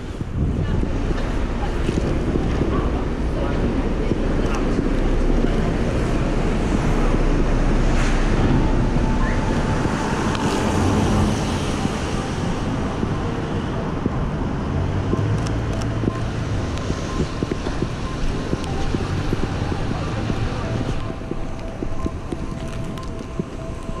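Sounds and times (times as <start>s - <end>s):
traffic noise: 0.0s - 24.0s
tyres hissing on wet roads: 0.0s - 24.0s
wind rumbling on microphone: 0.0s - 24.0s.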